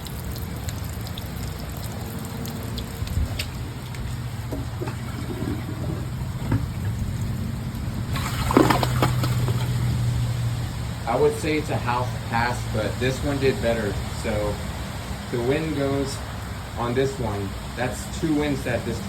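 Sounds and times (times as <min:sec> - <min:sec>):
water trickling in toilet tank: 0:00.0 - 0:19.0.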